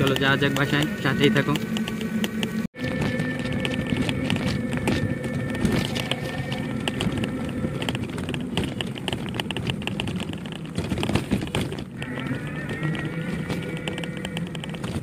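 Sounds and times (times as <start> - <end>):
rickshaw rattling and clicking: 0.0 - 15.0
low rumble: 0.4 - 15.0.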